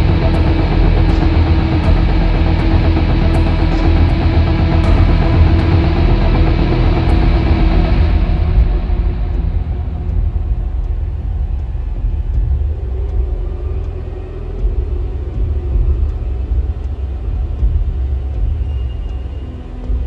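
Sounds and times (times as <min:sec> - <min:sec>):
deep rumbling drone: 0:00.0 - 0:20.0
faint sustained tones: 0:00.0 - 0:20.0.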